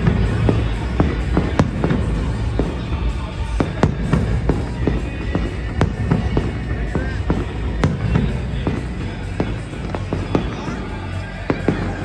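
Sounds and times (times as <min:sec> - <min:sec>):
fireworks bangs and crackles: 0:00.0 - 0:12.0
low rumble: 0:00.0 - 0:12.0
music: 0:00.0 - 0:12.0.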